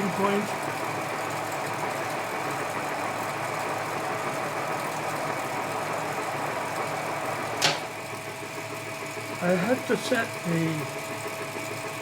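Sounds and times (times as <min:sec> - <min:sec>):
metal lathe humming: 0:00.0 - 0:11.2.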